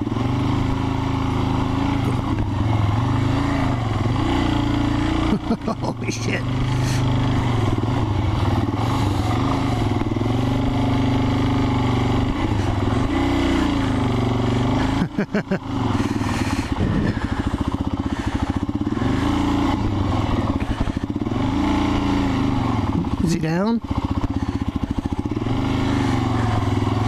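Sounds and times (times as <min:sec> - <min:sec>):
motorcycle engine running under load: 0:00.0 - 0:27.0.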